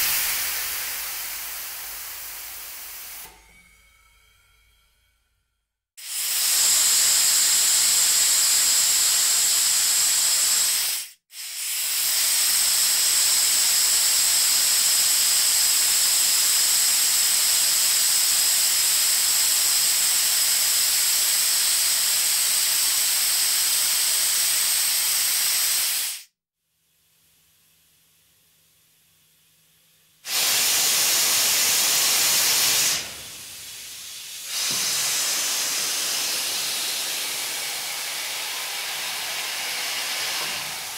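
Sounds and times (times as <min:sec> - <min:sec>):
compressed air hissing: 0:00.0 - 0:03.4, 0:06.0 - 0:26.3, 0:30.2 - 0:40.9.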